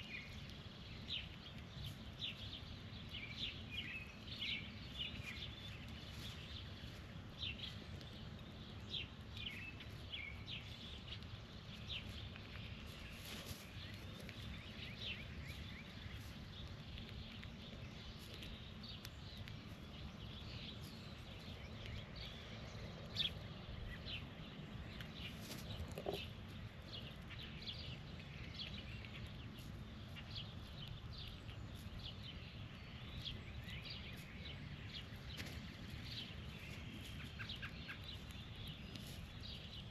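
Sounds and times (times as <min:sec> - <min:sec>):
birds chirping: 0:00.0 - 0:39.9
steady low rumble: 0:00.0 - 0:39.9.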